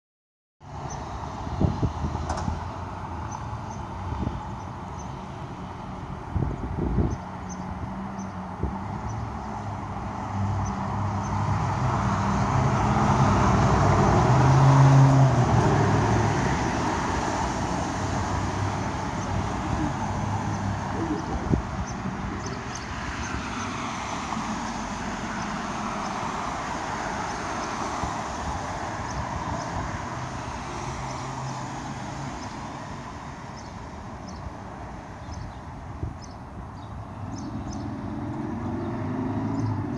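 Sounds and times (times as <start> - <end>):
cars passing: 0.6 - 39.9.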